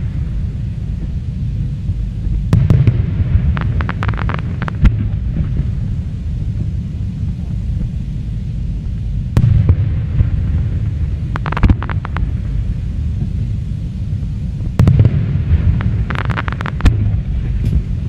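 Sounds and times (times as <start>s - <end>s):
fireworks crackling: 0.0s - 8.0s, 9.3s - 18.0s
fireworks bursts rumbling: 0.0s - 18.0s.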